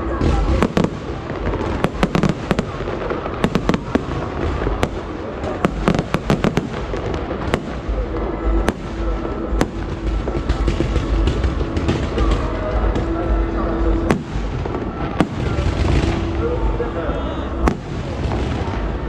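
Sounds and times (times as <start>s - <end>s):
distant explosions rumbling: 0.0s - 19.0s
fireworks bangs and crackles: 0.0s - 19.0s.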